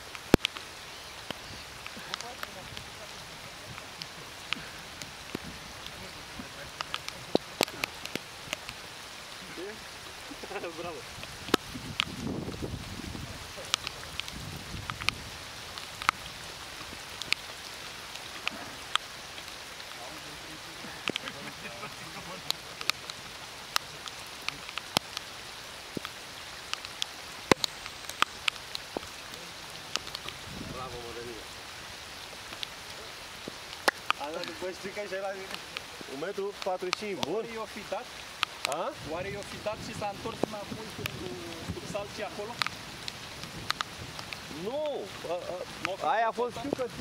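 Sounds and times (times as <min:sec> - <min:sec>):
raindrops tapping on camera: 0:00.0 - 0:47.0
steady rain: 0:00.0 - 0:47.0.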